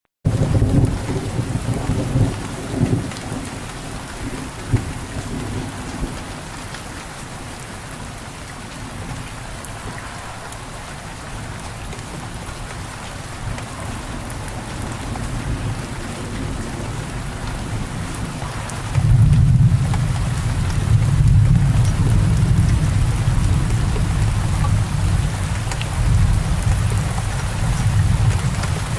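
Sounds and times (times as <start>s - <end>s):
low rumble of thunder: 0.3s - 28.9s
steady rain falling: 0.3s - 28.9s.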